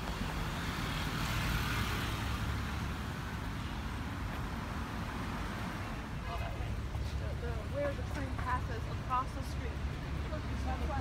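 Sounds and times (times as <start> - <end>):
passing cars and scooters hiss: 0.0 - 11.0
road traffic rumble: 0.0 - 11.0.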